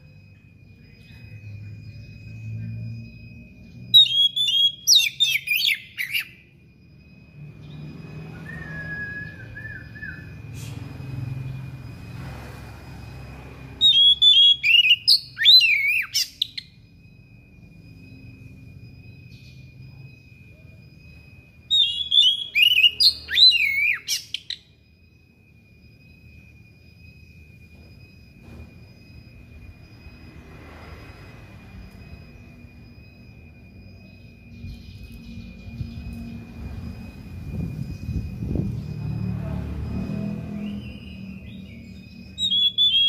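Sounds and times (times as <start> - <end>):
bird singing whistled notes: 0.0 - 12.0, 13.1 - 30.6, 31.6 - 43.0
steady high tone: 0.0 - 43.0.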